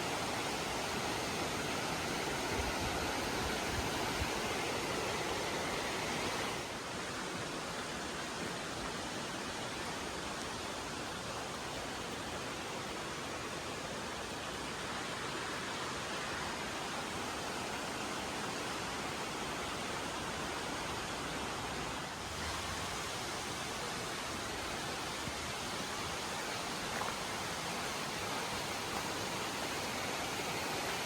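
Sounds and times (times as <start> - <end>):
creek water rushing over rocks: 0.0 - 31.0.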